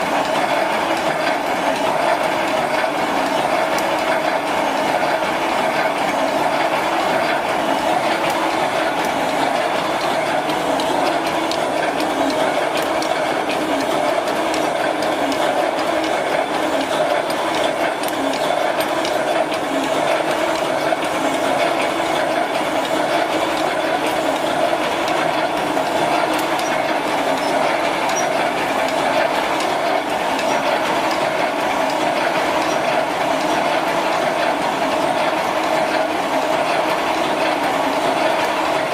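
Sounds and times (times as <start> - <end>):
welding machine rattling and clicking: 0.0 - 38.9.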